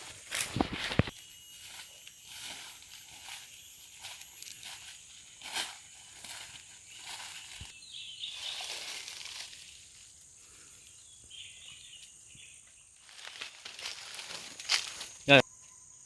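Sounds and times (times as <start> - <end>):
high insect drone: 0.0 - 16.0
birds chirping: 1.0 - 15.4.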